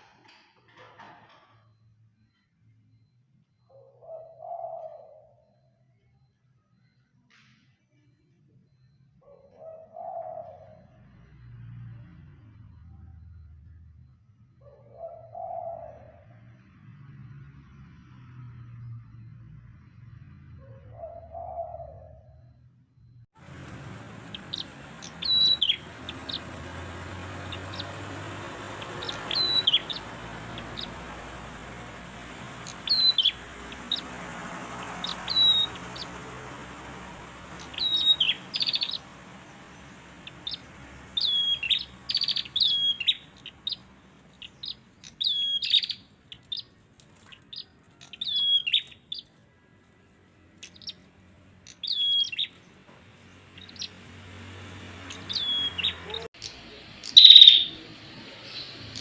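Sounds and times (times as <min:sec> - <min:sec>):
birds chirping: 0:00.0 - 0:07.0, 0:09.2 - 0:14.0, 0:14.6 - 0:17.2, 0:18.8 - 0:22.5, 0:23.4 - 0:59.0.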